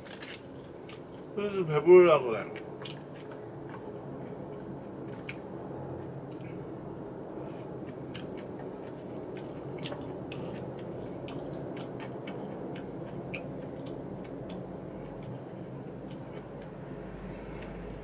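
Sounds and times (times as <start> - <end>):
person chewing food: 0.0 - 1.4, 2.6 - 16.8
steady low hum: 0.0 - 18.0.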